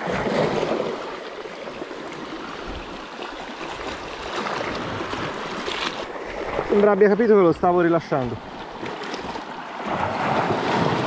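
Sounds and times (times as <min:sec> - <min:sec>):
water lapping: 0:00.0 - 0:11.0
water splashing and sloshing: 0:00.0 - 0:11.0.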